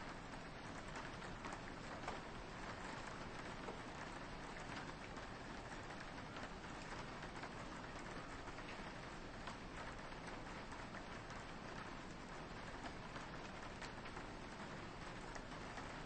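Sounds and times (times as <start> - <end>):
rain pattering on a window: 0.0 - 16.0.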